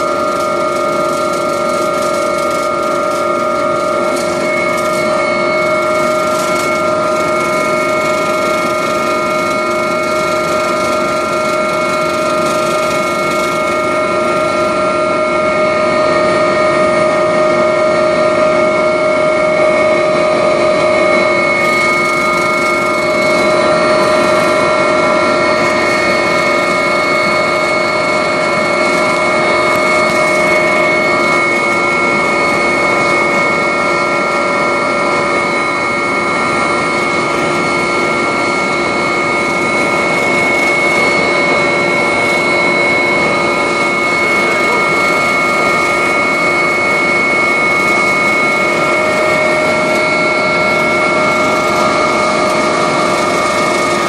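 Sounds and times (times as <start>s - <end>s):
helicopter engine and rotor rush: 0.0s - 54.0s
steady whining tones: 0.0s - 54.0s.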